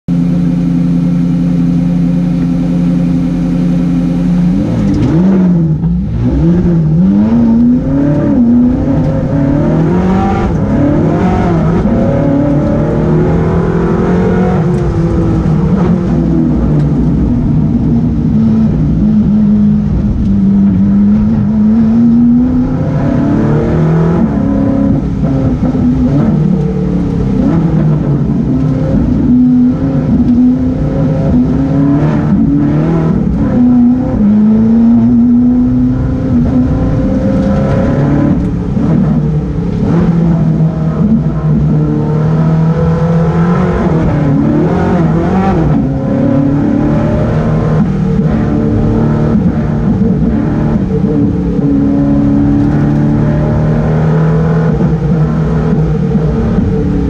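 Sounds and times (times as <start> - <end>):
race car engine revving: 0.1 - 57.0.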